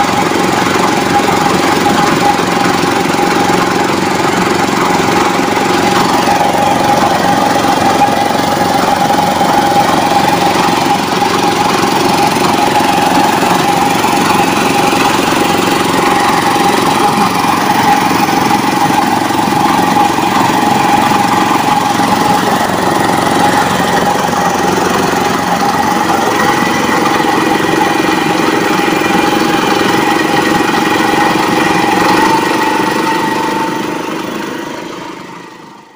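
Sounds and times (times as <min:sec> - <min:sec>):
power tiller engine under load: 0:00.0 - 0:35.9
tines churning wet mud: 0:00.0 - 0:35.9.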